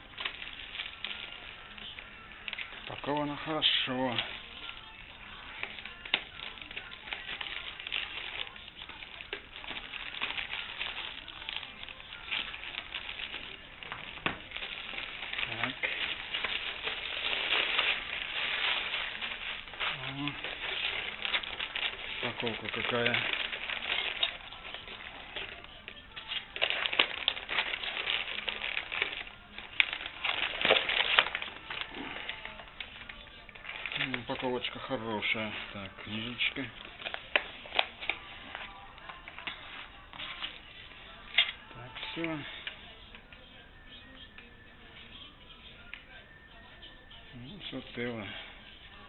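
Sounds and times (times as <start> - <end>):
packaging rustling and crinkling: 0.0 - 44.5.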